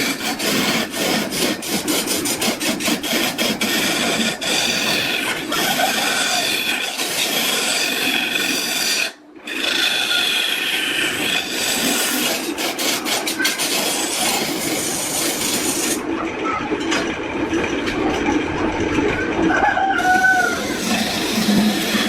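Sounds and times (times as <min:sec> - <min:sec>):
abrasive tool scraping wood: 0:00.0 - 0:16.0, 0:20.0 - 0:22.0.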